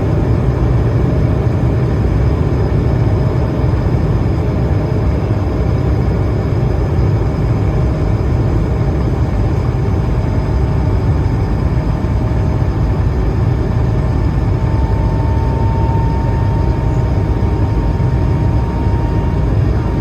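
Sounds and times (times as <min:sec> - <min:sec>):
airflow and jet engine rumble: 0:00.0 - 0:20.0
faint steady whining tones: 0:00.0 - 0:20.0.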